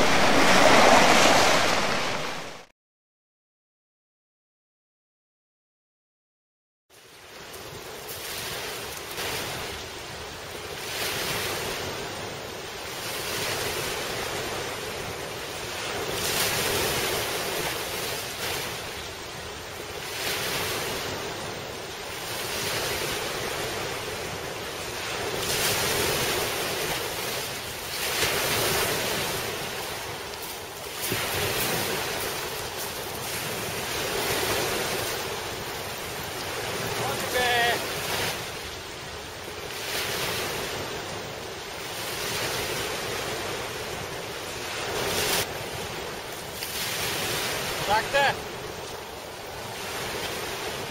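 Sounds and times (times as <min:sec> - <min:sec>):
sea surf on pebble beach: 0:00.0 - 0:02.7, 0:07.0 - 0:50.9.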